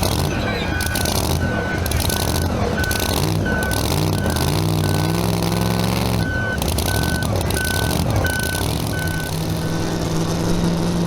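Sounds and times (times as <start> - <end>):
backup alarm beeping: 0.0 - 9.9
large engine idling: 0.0 - 11.0.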